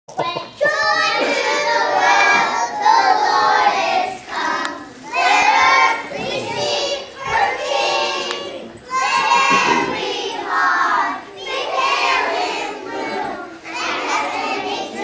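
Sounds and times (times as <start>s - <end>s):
young children singing: 0.1s - 15.0s.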